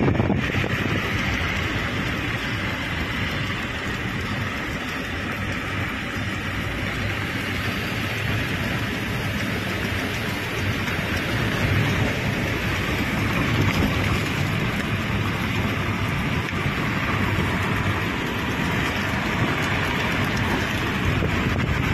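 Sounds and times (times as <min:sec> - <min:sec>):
wind rush and tyre noise: 0:00.0 - 0:21.9.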